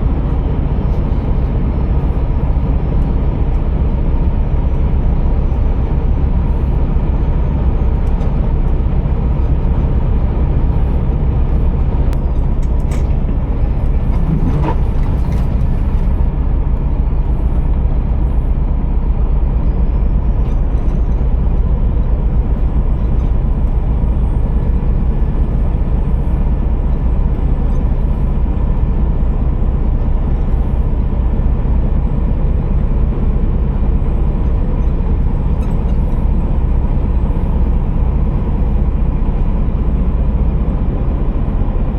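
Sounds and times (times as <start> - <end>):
truck diesel engine rumbling: 0.0 - 41.9.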